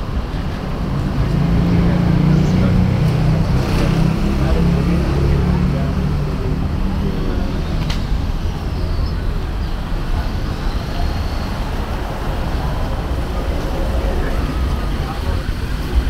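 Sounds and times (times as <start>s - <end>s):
engine hum: 0.0s - 16.0s
street traffic rumble: 0.0s - 16.0s.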